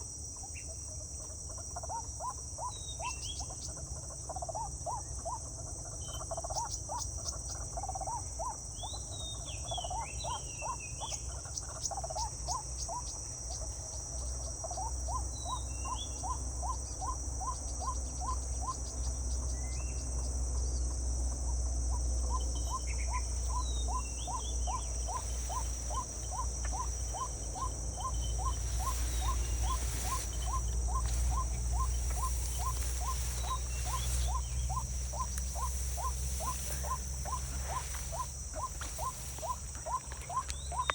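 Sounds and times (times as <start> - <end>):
insect chorus drone: 0.0 - 40.9
bird chirps: 1.8 - 40.9.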